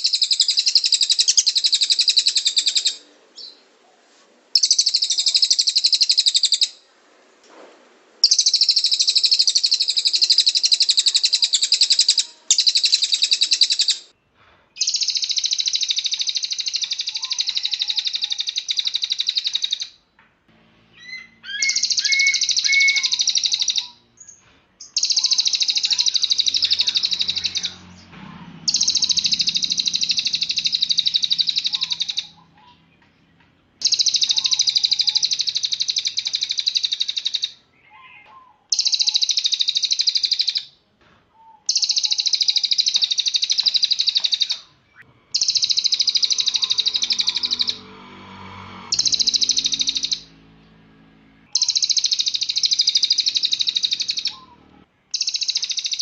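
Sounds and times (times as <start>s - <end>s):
songbird high-pitched trills: 0.0s - 3.6s, 4.6s - 6.8s, 8.2s - 14.1s, 14.8s - 20.0s, 20.9s - 27.9s, 28.7s - 40.7s, 41.4s - 47.9s, 48.9s - 50.4s, 51.5s - 56.0s.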